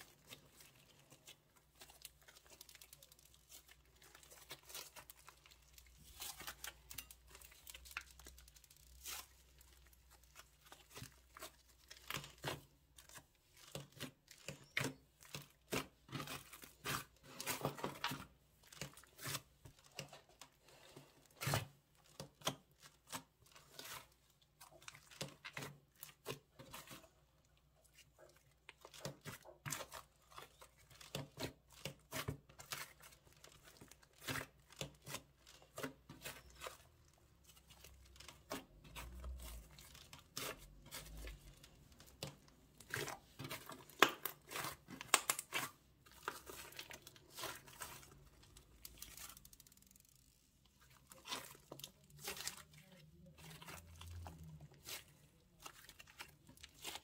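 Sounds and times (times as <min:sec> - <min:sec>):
slime sticky crackles: 0:00.0 - 0:57.0.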